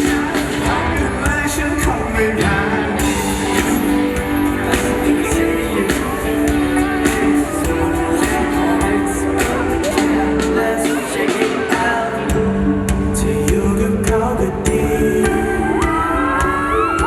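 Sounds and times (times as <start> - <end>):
person singing: 0.0 - 17.0
pop-rock band through pa: 0.0 - 17.0.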